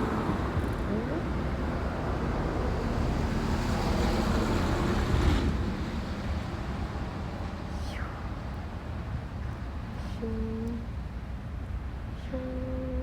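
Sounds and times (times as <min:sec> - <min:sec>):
traffic rumble: 0:00.0 - 0:12.2.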